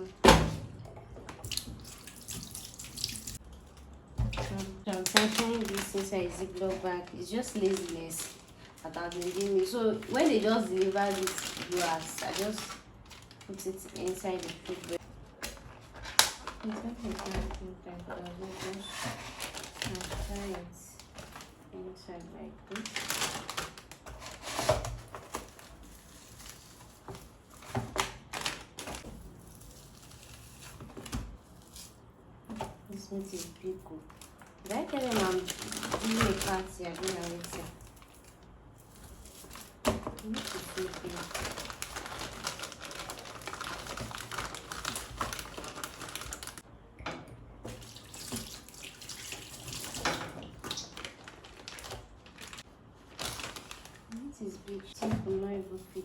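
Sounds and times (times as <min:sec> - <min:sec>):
plastic bag crinkling: 0:04.5 - 0:21.7, 0:22.7 - 0:31.9, 0:33.3 - 0:46.7, 0:47.9 - 0:56.0.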